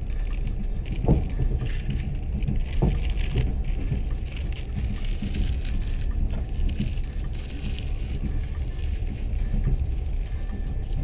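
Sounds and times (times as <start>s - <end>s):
light rattles and knocks: 0.0s - 11.0s
train carriage rumbling: 0.0s - 11.0s.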